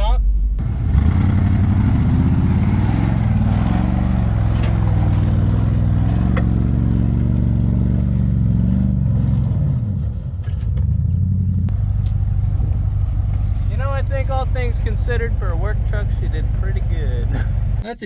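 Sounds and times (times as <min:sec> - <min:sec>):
pickup truck engine running: 0:00.6 - 0:17.8.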